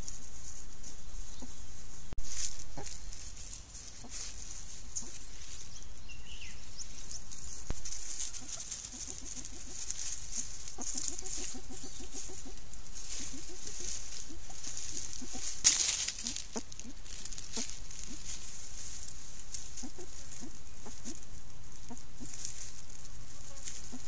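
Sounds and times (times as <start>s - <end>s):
mongoose contact calls: 0.0s - 24.0s.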